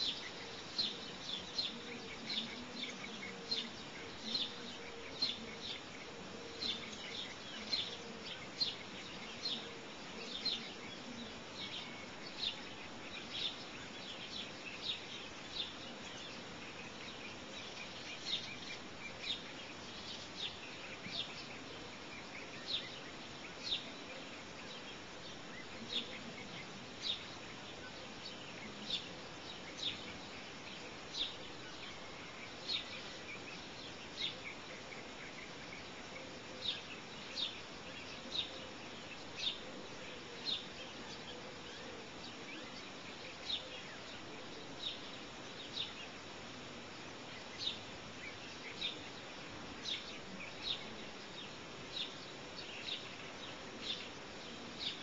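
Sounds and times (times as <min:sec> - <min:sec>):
background hiss: 0:00.0 - 0:55.0
bird chirping: 0:00.0 - 0:55.0.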